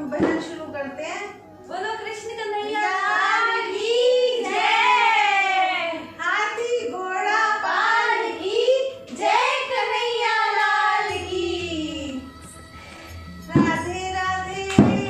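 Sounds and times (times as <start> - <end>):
women singing together: 2.7 - 15.0.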